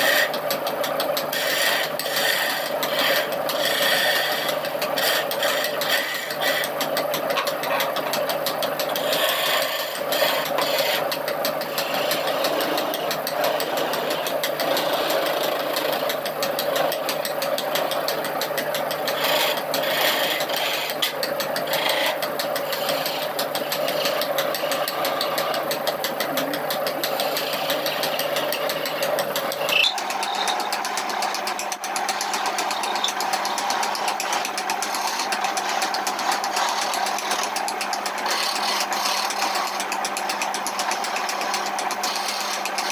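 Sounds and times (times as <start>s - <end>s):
electric power tool whining: 0.0s - 42.9s.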